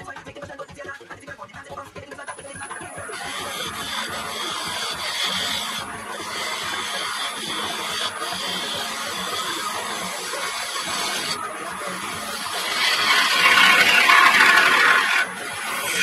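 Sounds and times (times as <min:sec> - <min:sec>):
lathe tool scraping wood: 0:02.3 - 0:16.0.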